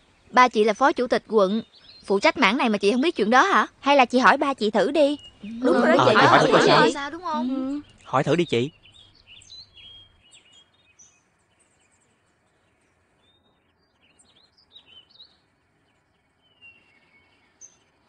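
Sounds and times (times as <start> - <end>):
faint birds chirping: 0.0 - 18.0
low background hiss: 0.0 - 18.0.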